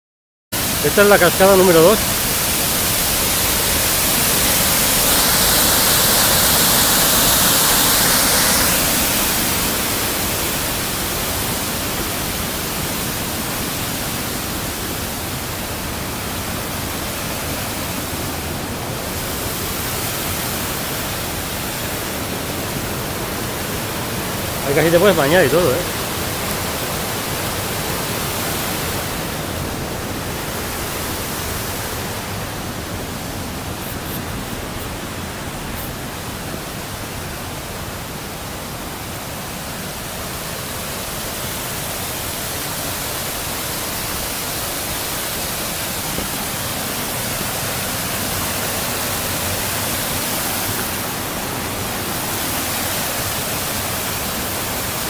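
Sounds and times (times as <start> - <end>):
waterfall and rapids rushing: 0.6 - 55.0.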